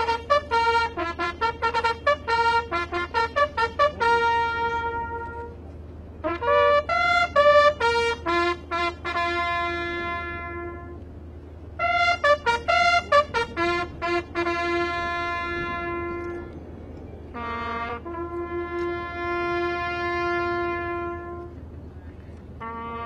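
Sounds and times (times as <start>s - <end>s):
bugle call on a brass horn: 0.0s - 11.1s, 11.8s - 16.6s, 17.3s - 23.0s
steady low hum: 0.0s - 23.0s.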